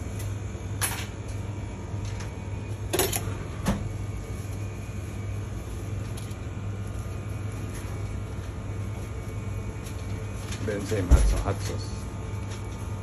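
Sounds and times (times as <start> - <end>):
low hum of equipment: 0.0 - 13.0.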